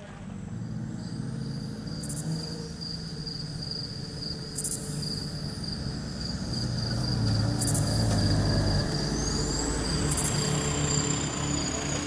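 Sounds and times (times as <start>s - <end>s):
low vehicle engine rumble: 0.0s - 12.0s
insects chirring: 0.3s - 12.0s.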